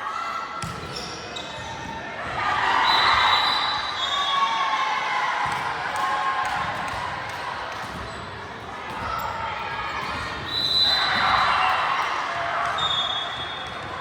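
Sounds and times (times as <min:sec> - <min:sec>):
voices echoing in a gym: 0:00.0 - 0:14.0.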